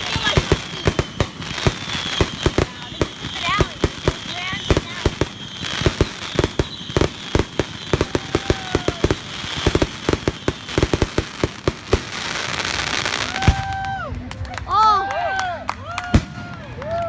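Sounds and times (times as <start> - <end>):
fireworks bangs and crackling: 0.0 - 14.4, 15.9 - 17.0.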